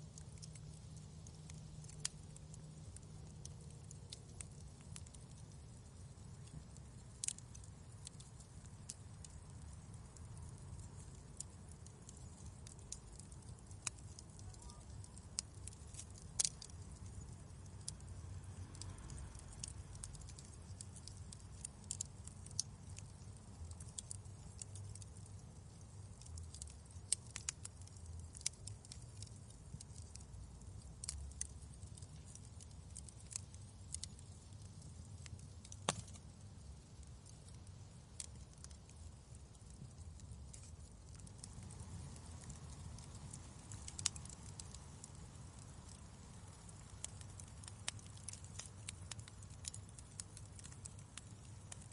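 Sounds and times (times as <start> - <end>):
low rumble of flames: 0.0 - 51.9
wood fire crackling and popping: 0.0 - 51.9.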